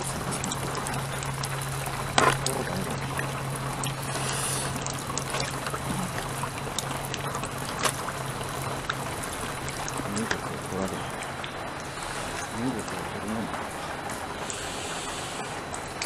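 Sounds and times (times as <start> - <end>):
low steady hum: 0.0 - 16.0
trickling water: 0.0 - 16.0.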